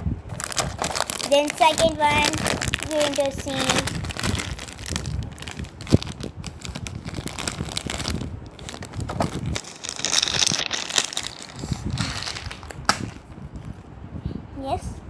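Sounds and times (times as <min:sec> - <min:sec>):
plastic toy pieces rustling: 0:00.3 - 0:12.8.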